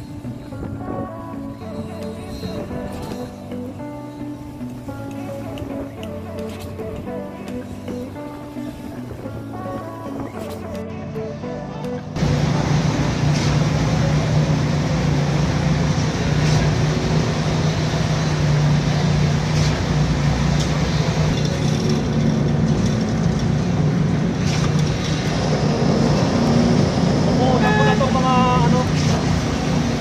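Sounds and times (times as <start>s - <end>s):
concrete pump droning: 0.0s - 30.0s.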